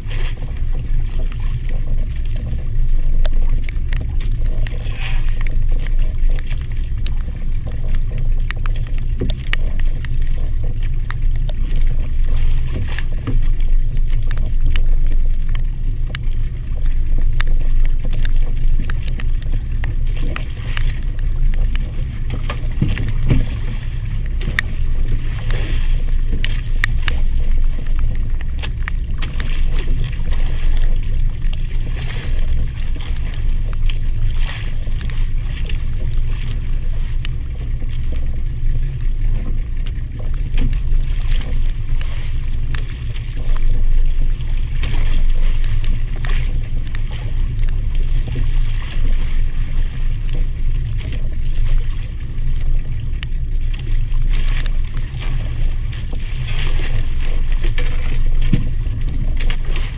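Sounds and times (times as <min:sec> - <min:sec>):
boat engine low rumble: 0:00.0 - 0:59.9
water splashes: 0:00.0 - 0:59.9.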